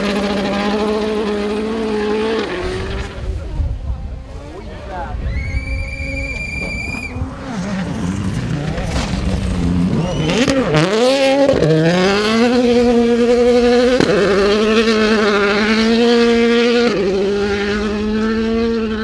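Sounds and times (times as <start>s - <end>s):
rally car engine revving: 0.0s - 3.5s, 6.0s - 19.0s.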